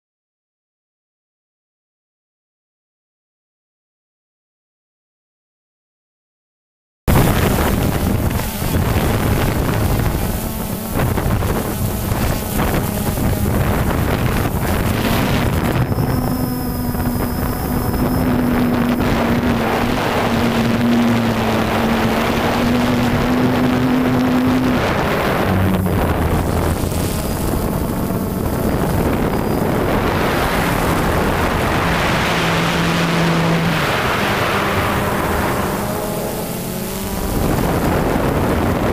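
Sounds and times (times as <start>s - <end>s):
drone motors whining: 7.1s - 38.9s
wind buffeting microphone: 7.1s - 38.9s.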